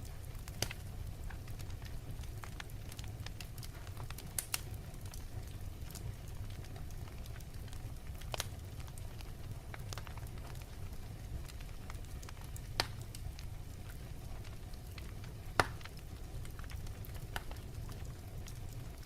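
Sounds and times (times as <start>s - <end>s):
fire crackling and popping: 0.0s - 19.0s
wood fire rumbling: 0.0s - 19.0s.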